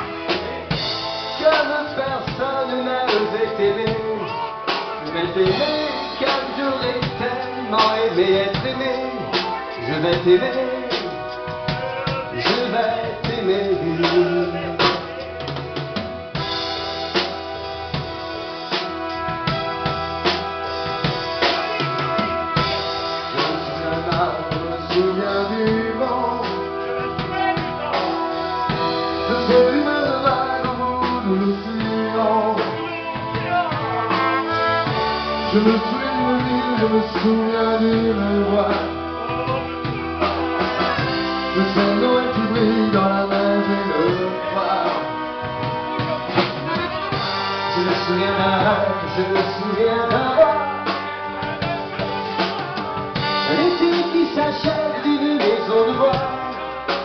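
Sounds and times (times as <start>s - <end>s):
accordion: 0.0s - 57.0s
drum kit beat: 0.0s - 57.0s
keyboard: 0.0s - 57.0s
live dance band playing pop: 0.0s - 57.0s.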